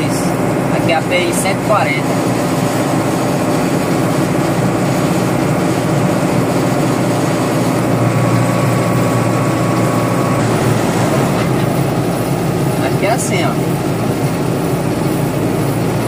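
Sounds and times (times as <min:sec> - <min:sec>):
diesel engine hum: 0:00.0 - 0:16.0
tyres hissing on wet asphalt: 0:00.0 - 0:16.0.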